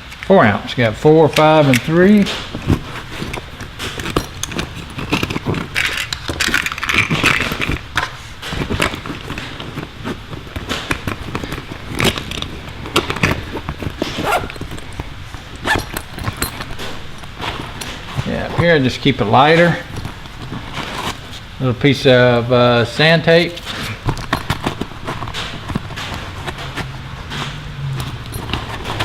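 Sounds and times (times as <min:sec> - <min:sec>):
tools rummaged in a tool bag: 0:01.3 - 0:29.0.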